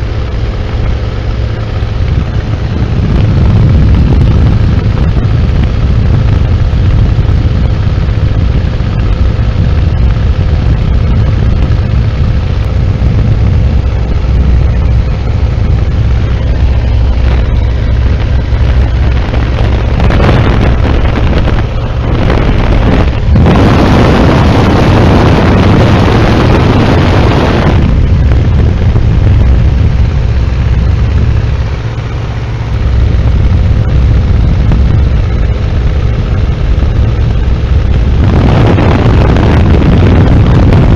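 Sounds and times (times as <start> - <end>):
biplane engine droning: 0.0 - 40.9
wind buffeting microphone: 0.0 - 40.9.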